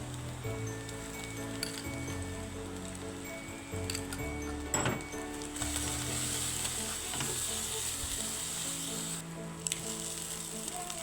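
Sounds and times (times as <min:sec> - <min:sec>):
food sizzling in hot oil: 0:00.0 - 0:11.0
soft background music: 0:00.0 - 0:11.0.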